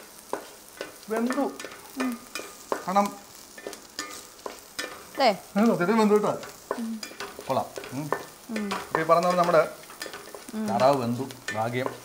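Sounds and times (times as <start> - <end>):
onions frying in a pan: 0.0 - 12.0.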